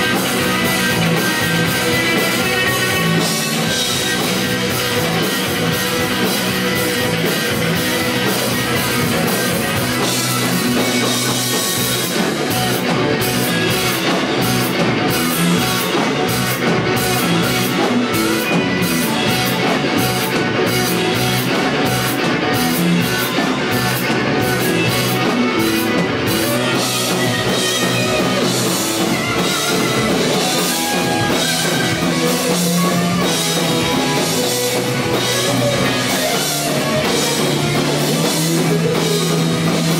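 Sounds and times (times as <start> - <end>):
rock band instrumental: 0.0 - 39.9.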